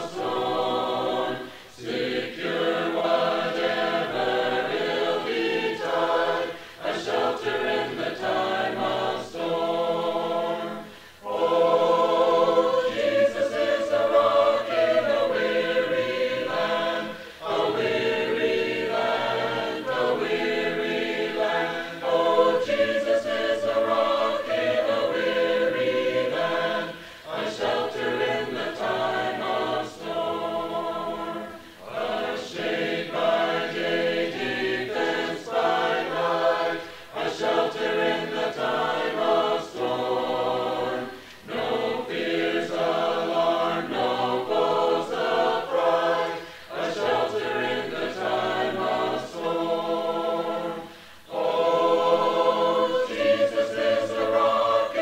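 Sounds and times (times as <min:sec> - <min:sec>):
choir breathing: 0:00.0 - 0:55.0
choir singing a hymn: 0:00.0 - 0:55.0.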